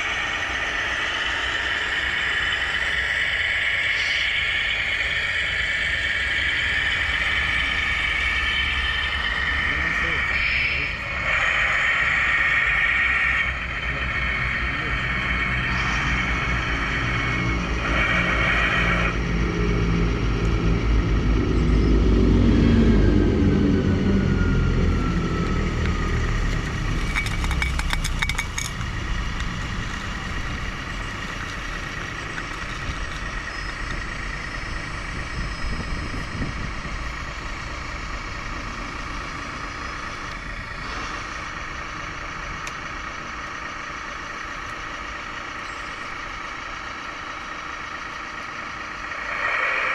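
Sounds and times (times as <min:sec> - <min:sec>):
model vehicle engine drone: 0:00.0 - 0:49.9.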